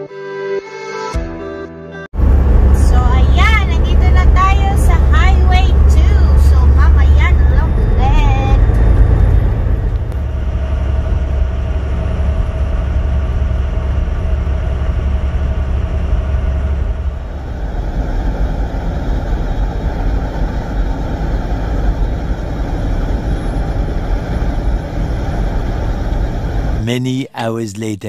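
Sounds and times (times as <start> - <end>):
truck engine and road rumble: 2.2 - 28.0.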